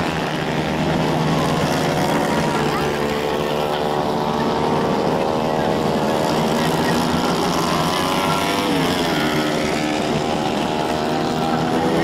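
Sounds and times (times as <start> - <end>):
kart engines racing: 0.0 - 12.0.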